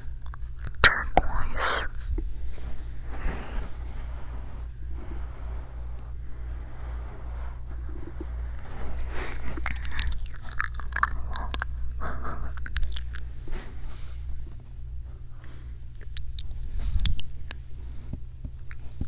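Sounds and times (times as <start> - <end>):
crisp clicks and crackles: 0.0 - 14.7, 15.4 - 19.0
steady low hum: 0.0 - 19.0.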